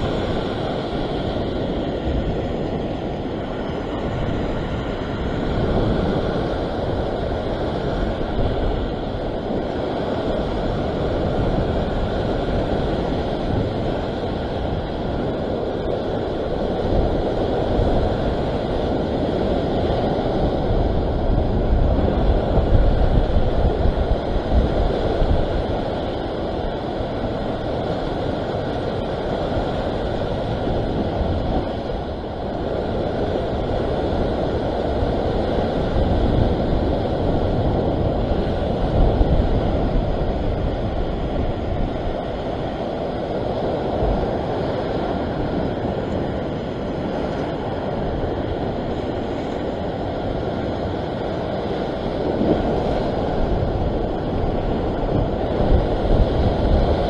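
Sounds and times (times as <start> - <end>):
choppy sea washing: 0.0 - 57.0
wind rumbling on microphone: 0.0 - 57.0.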